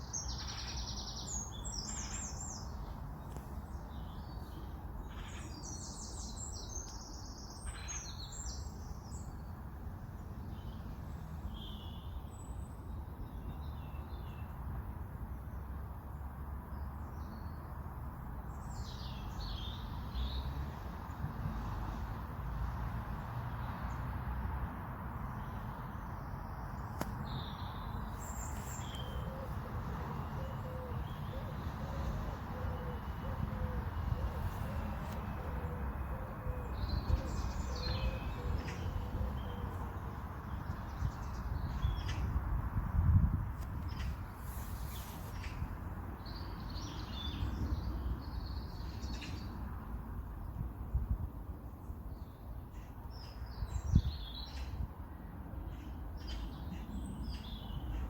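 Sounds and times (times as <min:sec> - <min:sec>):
low rumble of distant traffic: 0:00.0 - 0:58.0.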